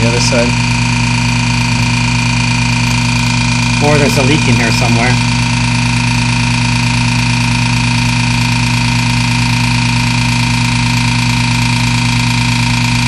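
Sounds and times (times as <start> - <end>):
vacuum pump humming: 0.0 - 13.0
whining tones: 0.0 - 13.0.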